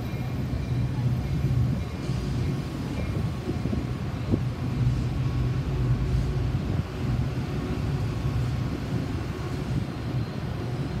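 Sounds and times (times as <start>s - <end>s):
heavy engine running: 0.0s - 11.0s.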